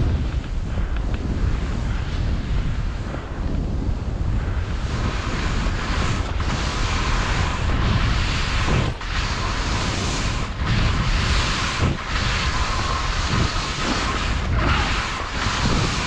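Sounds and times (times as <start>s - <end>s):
skis hissing through snow: 0.0s - 16.0s
wind on microphone: 0.0s - 16.0s.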